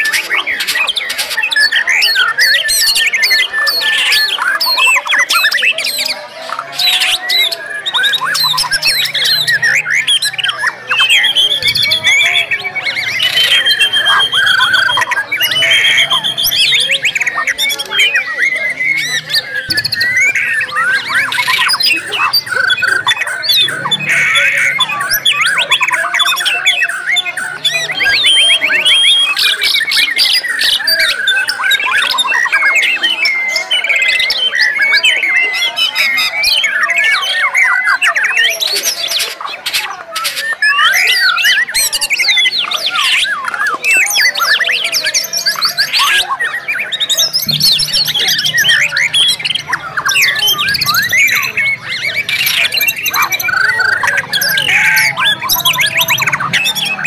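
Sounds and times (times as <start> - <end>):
birds singing trills and whistles: 0.0 - 57.0.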